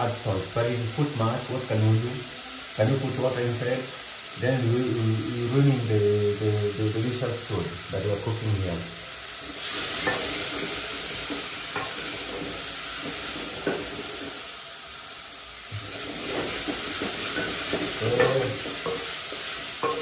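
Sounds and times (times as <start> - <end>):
onions and tomatoes sizzling: 0.0 - 20.0.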